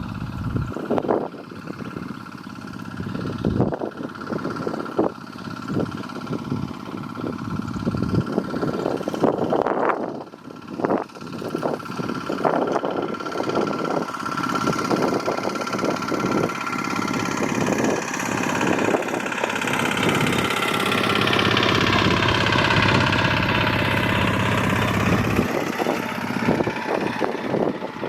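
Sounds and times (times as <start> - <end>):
engine running close by: 0.0 - 28.0.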